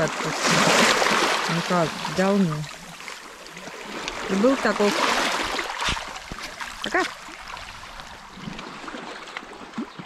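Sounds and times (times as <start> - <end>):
waves washing over pebbles: 0.0 - 9.2.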